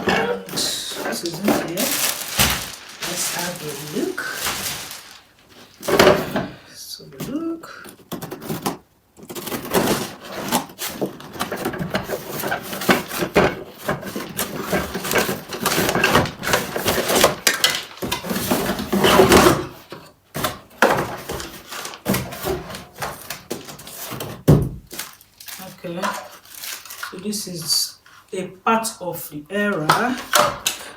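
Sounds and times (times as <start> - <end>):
packaging rustling and clattering: 0.0 - 6.7, 7.9 - 27.4, 29.7 - 30.9.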